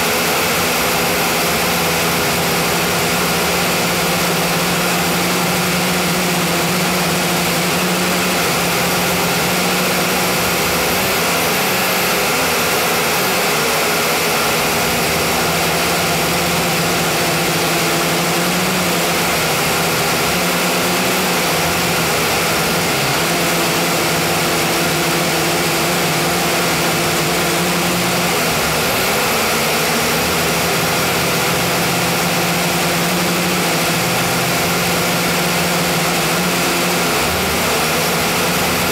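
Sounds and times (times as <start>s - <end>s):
drone propellers humming: 0.0s - 38.9s.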